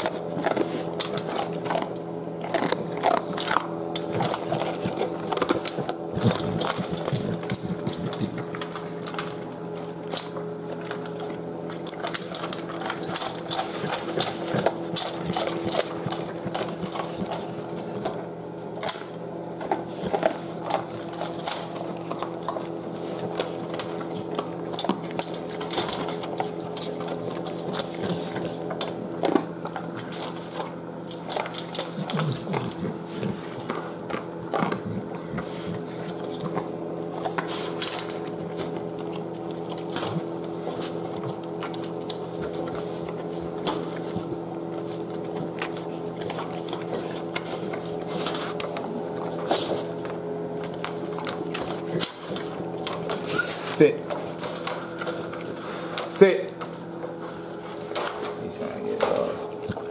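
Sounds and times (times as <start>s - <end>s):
dog chewing and licking: 0.0s - 59.9s
mechanical hum: 0.0s - 59.9s.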